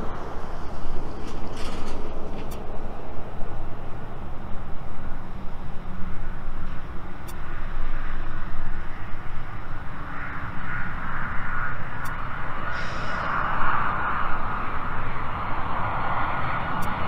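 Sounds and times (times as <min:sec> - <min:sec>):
jet engine whine: 0:00.0 - 0:17.0
low jet rumble: 0:00.0 - 0:17.0.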